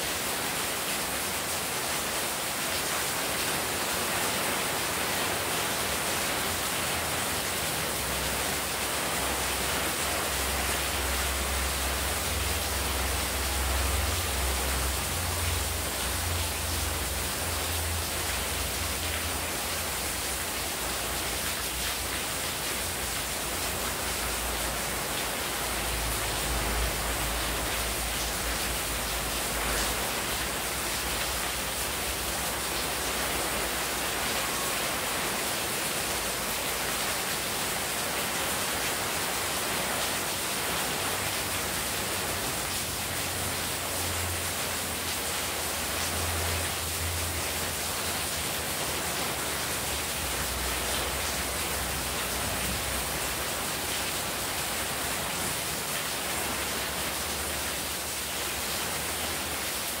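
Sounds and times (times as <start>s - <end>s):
heavy rain: 0.0s - 60.0s
water streaming onto pavement: 0.0s - 60.0s.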